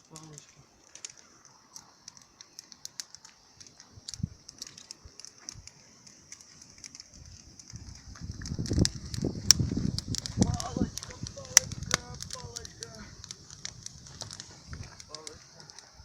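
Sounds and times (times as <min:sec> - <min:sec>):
campfire crackling and popping: 0:00.0 - 0:16.0
faint steady hiss: 0:00.0 - 0:16.0.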